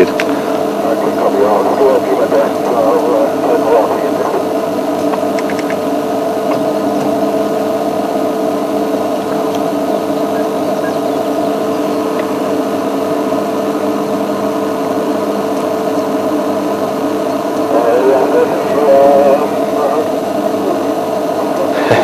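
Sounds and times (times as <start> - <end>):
constant hiss: 0.0 - 22.0.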